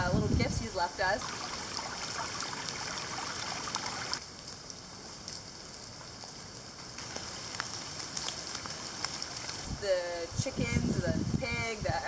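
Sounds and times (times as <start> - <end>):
flowing runoff: 0.0 - 12.0
rain hissing on puddles: 0.2 - 12.0.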